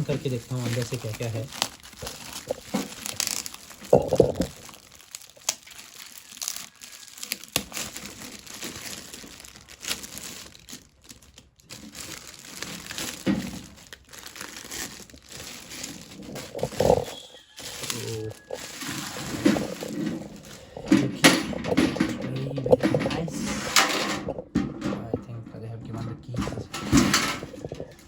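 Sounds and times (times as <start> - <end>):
packaging crinkling and rustling: 0.0 - 24.7, 26.4 - 28.0.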